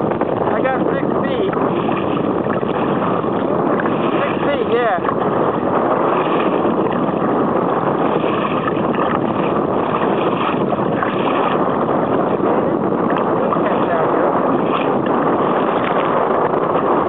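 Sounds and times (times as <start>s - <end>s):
water splashing against kayak hull: 0.0s - 17.0s
wind on microphone: 0.0s - 17.0s.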